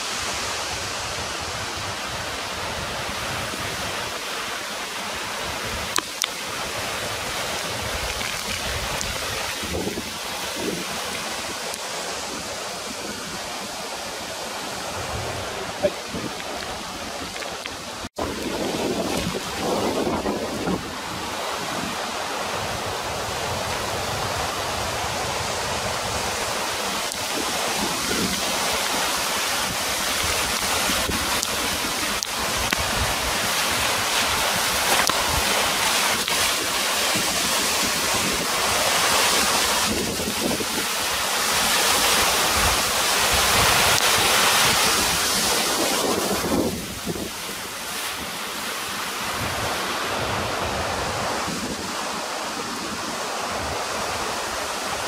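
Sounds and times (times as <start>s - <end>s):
floodwater rushing in a river: 0.0s - 55.0s
wind buffeting the microphone: 5.3s - 55.0s.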